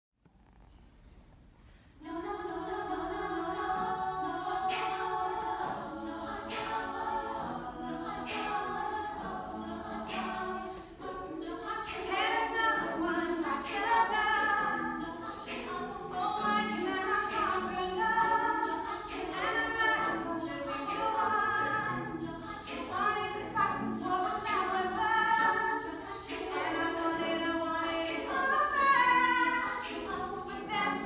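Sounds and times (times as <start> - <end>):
vocal group singing in harmony: 1.9 - 31.0
vocal percussion hits: 3.7 - 31.0.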